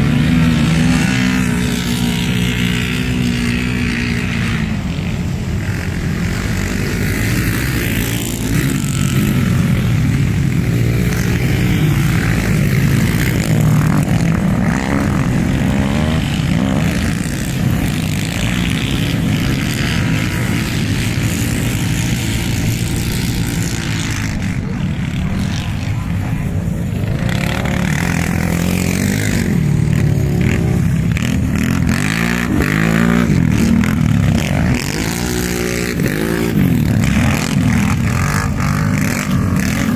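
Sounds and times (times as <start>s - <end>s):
quad bike engines revving: 0.0s - 39.9s.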